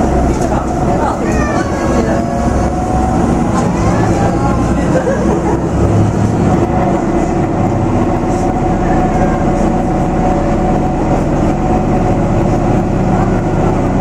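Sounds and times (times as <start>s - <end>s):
diesel railcar engine drone: 0.0s - 14.0s.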